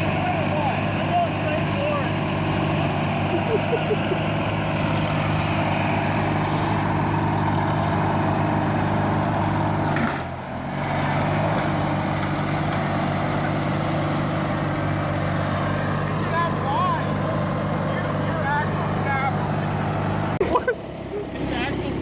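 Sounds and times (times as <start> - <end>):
lawn tractor engine under load: 0.0 - 22.0.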